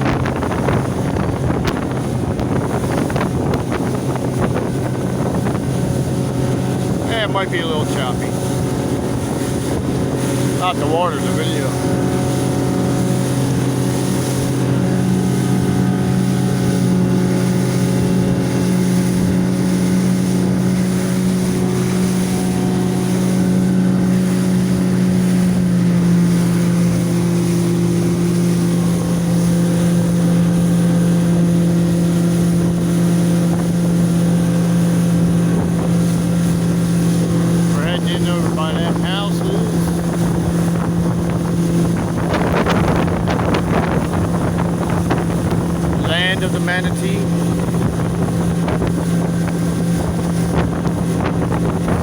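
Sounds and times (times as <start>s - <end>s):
outboard motor running: 0.0s - 52.0s
wind buffeting microphone: 0.0s - 52.0s.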